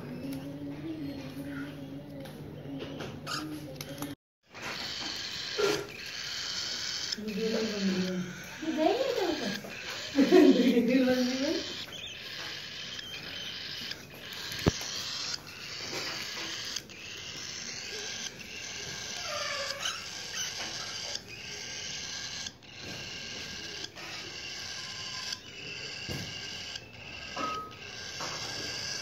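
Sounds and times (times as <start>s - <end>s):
chicks raspy begging calls: 4.6s - 29.0s.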